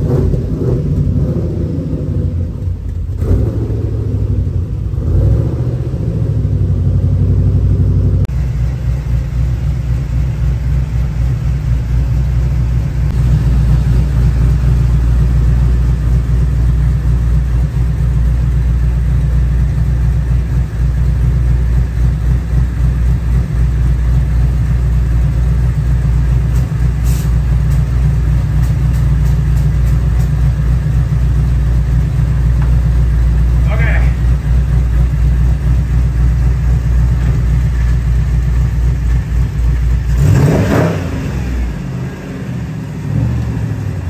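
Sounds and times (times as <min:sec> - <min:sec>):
car engine rumbling: 0:00.0 - 0:44.0.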